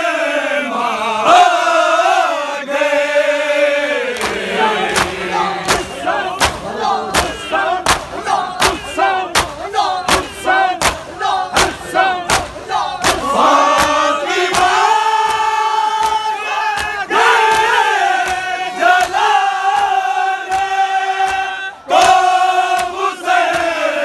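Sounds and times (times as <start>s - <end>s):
men chanting: 0.0s - 24.0s
chest beating slaps: 4.2s - 23.8s
men shouting a long cry: 4.5s - 24.0s.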